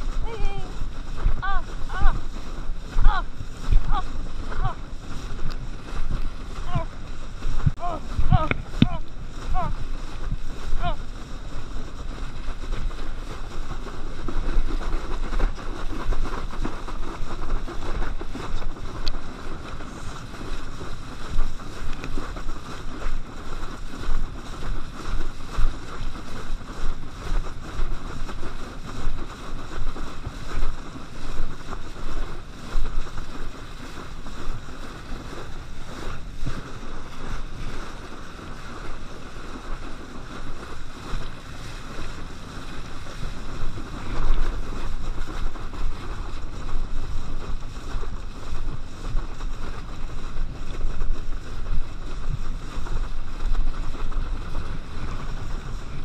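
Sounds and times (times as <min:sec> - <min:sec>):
water rushing and spraying: 0:00.0 - 0:56.0
wind buffeting microphone: 0:00.0 - 0:56.0.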